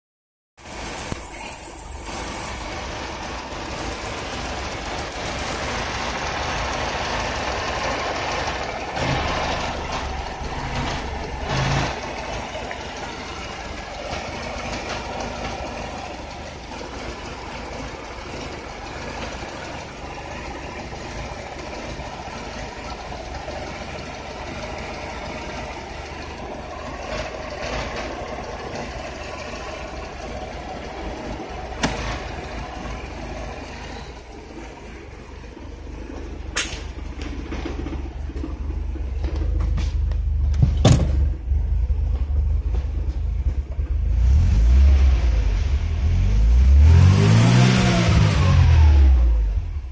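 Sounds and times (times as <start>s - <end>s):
car engine idling: 0.6s - 49.9s.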